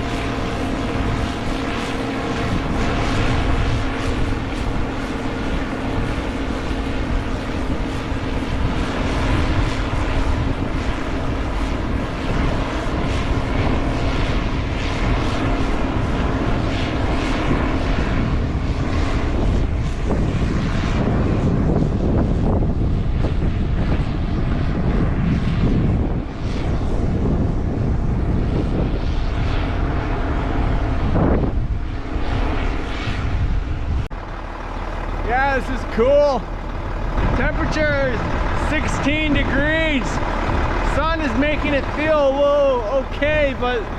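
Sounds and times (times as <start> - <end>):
diesel machinery engine drone: 0.0 - 43.9.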